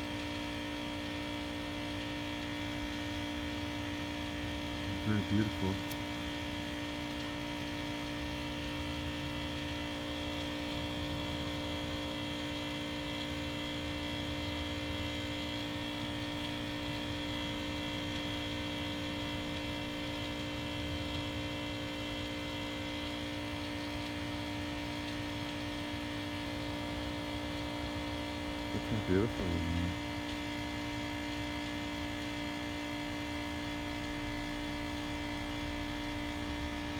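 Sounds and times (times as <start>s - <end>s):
machine hum with held tones: 0.0s - 36.9s.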